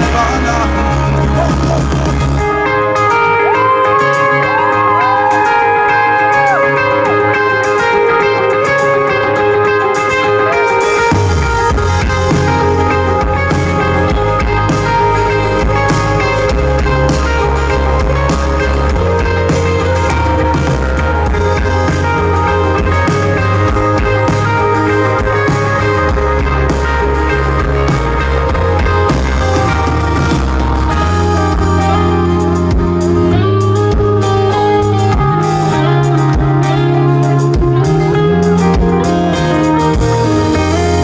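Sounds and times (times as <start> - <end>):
rock band playing instrumental: 0.0 - 41.0.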